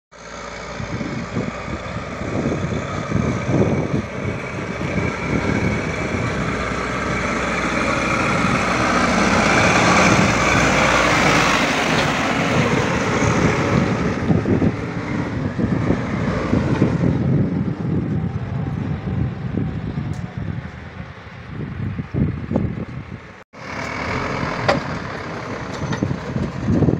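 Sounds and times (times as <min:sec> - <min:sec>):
diesel engine running: 0:00.2 - 0:26.9.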